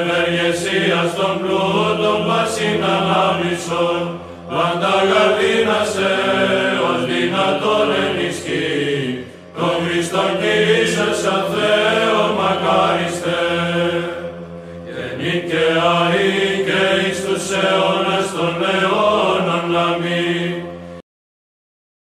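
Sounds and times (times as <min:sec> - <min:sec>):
choir chanting a hymn: 0:00.0 - 0:21.0
low held drone note: 0:00.0 - 0:21.0.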